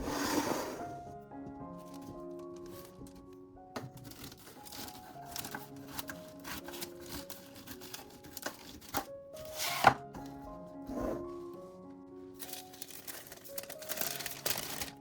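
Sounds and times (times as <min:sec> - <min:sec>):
background music with simple melody: 0:00.0 - 0:15.0.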